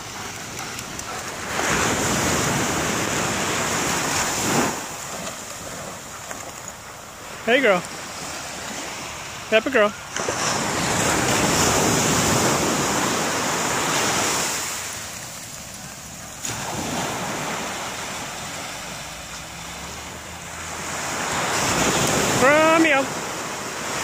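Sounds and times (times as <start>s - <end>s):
ocean surf breaking: 0.0s - 24.0s.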